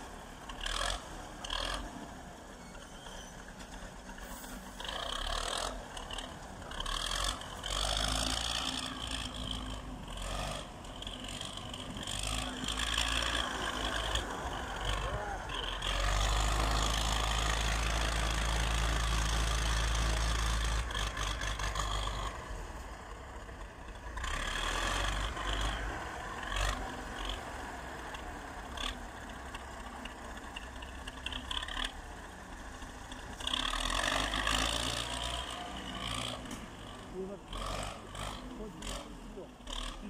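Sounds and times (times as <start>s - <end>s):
loader diesel engine running: 0.0s - 40.0s.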